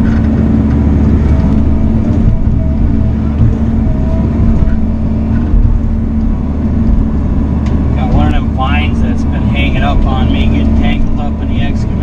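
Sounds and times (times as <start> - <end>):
diesel engine running: 0.0 - 12.0
hydraulic whines: 0.0 - 12.0.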